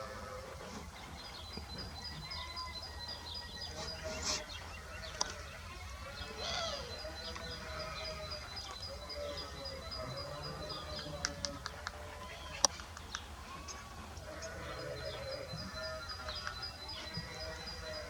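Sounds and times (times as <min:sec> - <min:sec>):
birds singing and calling: 0:00.0 - 0:18.0.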